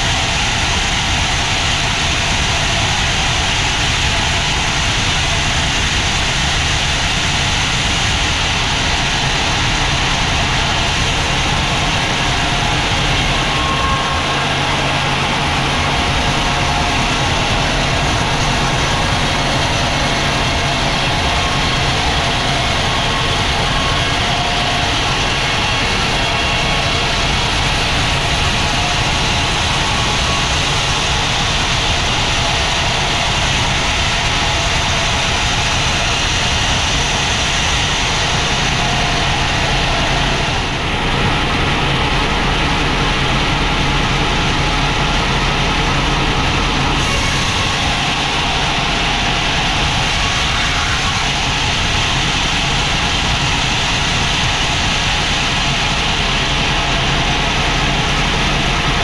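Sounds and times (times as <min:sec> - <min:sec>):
low engine-like hum: 0:00.0 - 0:59.0
sawmill machinery running: 0:00.0 - 0:59.0.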